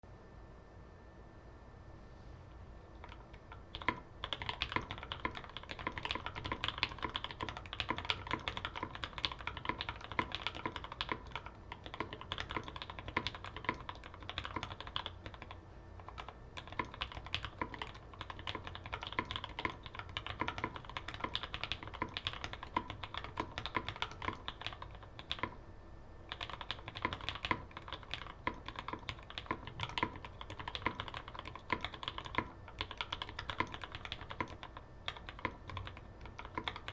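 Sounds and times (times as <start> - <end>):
mechanical keyboard typing: 3.0 - 25.6, 26.3 - 36.9.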